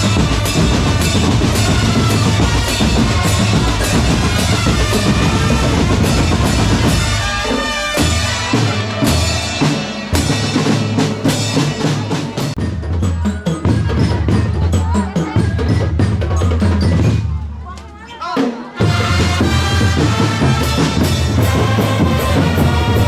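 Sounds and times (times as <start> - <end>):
snare drums with rolls: 0.0 - 17.4, 18.3 - 23.0
bass drums: 0.0 - 17.5, 18.8 - 23.0.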